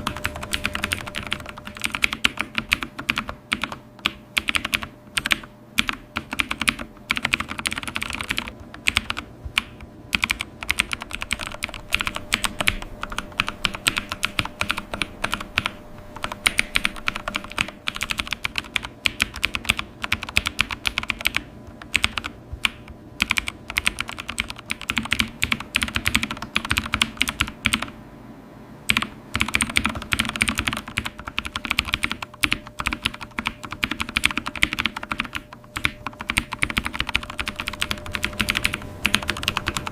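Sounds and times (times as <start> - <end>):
computer keyboard typing: 0.0 - 28.0, 28.9 - 39.9.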